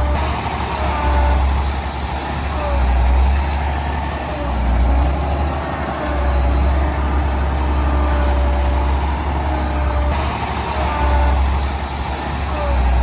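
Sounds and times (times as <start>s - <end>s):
heavy diesel machinery rumbling: 0.0s - 13.0s.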